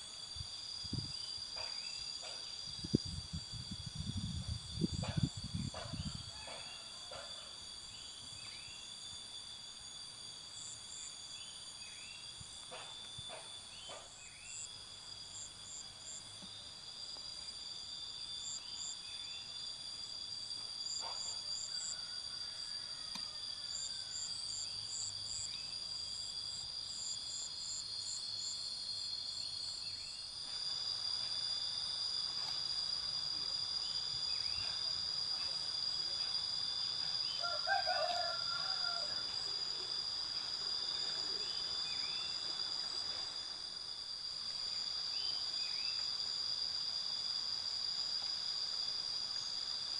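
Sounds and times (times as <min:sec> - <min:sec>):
insects trilling: 0:00.0 - 0:49.9
short insect chirps: 0:00.0 - 0:49.9.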